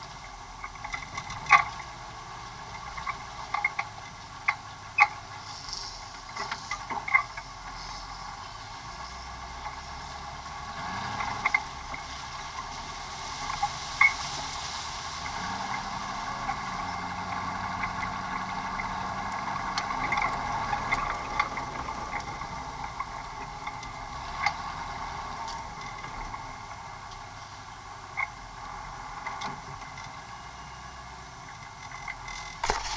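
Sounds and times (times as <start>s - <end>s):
off-road vehicle running: 0.0s - 32.9s.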